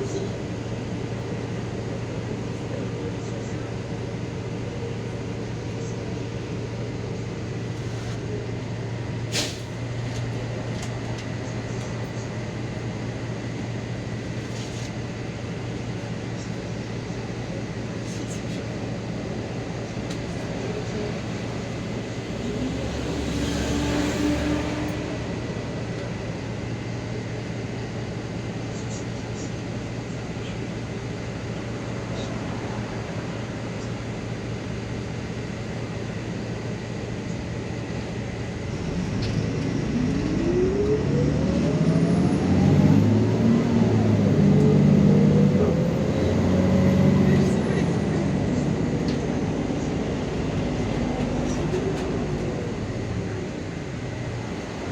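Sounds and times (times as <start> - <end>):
bus engine hum: 0.0 - 54.9
road noise: 0.0 - 54.9.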